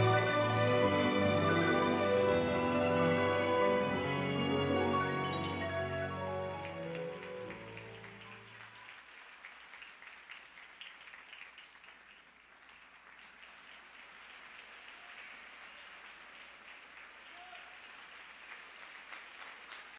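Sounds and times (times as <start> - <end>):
faint audience applause: 0.0 - 19.9.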